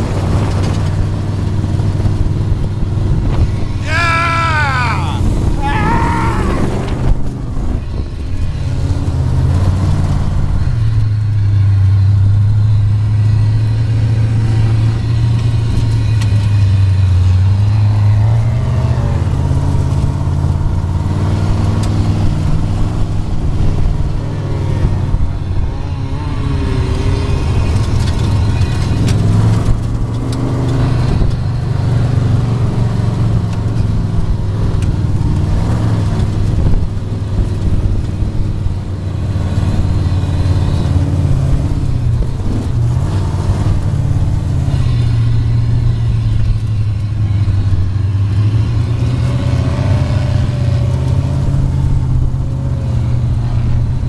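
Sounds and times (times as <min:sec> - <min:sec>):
buggy engine under load: 0:00.0 - 0:54.0.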